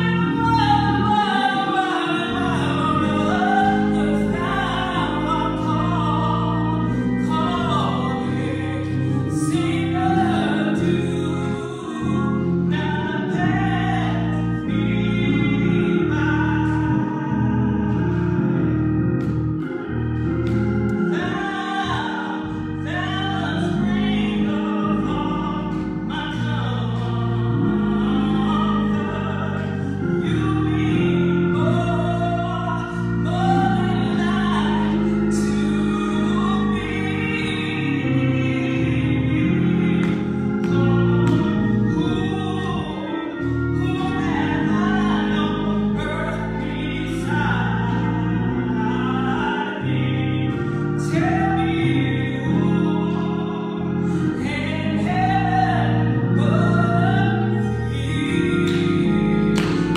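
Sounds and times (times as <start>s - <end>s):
woman singing: 0.0s - 18.7s, 21.1s - 59.9s
organ chords: 0.0s - 59.9s.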